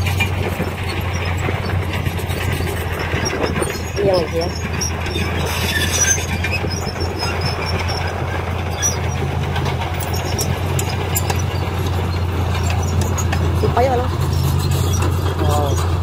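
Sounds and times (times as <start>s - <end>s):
diesel engine running: 0.0s - 16.0s
light clatter: 0.0s - 16.0s
soil sliding out: 0.0s - 16.0s.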